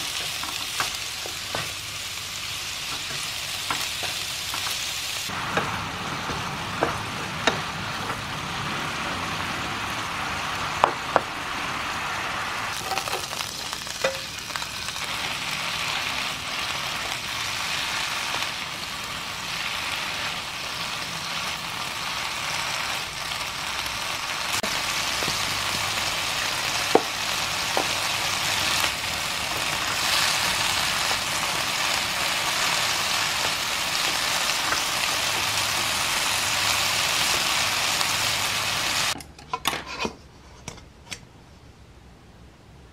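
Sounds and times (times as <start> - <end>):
vegetables sizzling in oil: 0.0 - 39.2.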